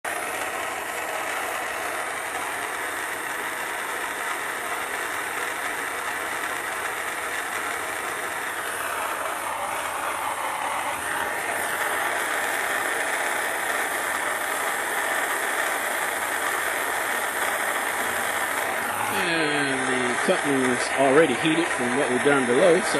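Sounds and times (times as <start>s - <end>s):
torch flame hissing: 0.0s - 22.9s.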